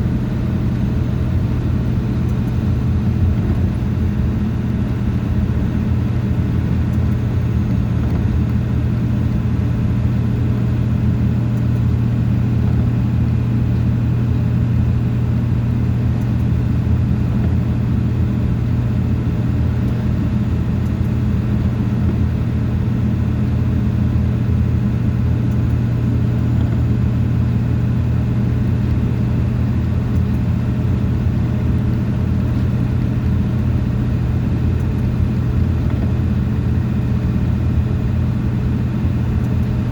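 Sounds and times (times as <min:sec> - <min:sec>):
low engine drone: 0:00.0 - 0:39.9
road noise: 0:00.0 - 0:39.9.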